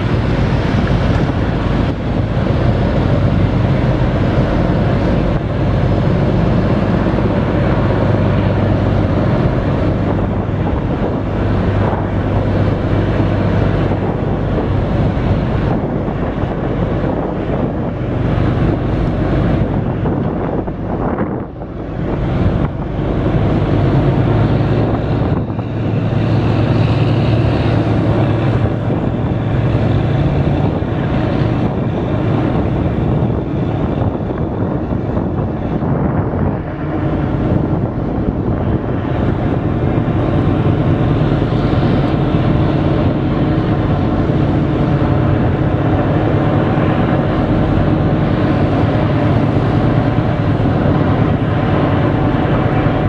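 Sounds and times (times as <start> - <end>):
marine diesel engines droning: 0.0 - 53.0
propeller wash churning water: 0.0 - 53.0.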